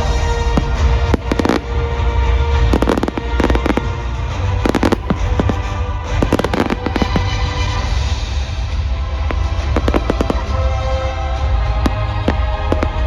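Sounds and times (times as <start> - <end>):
fireworks crackling and banging: 0.0 - 13.0
music playing: 0.0 - 13.0.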